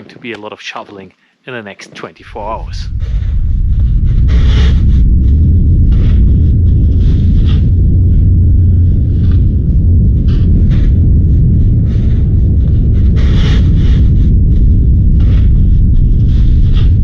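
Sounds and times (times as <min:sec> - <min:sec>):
wind buffeting microphone: 0:01.8 - 0:17.0.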